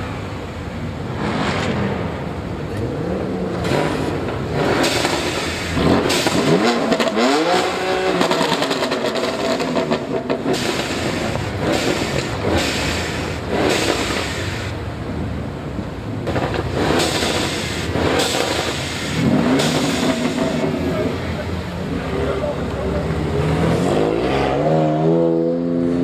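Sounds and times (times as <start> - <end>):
car accelerating with loud exhaust: 0.0 - 26.0.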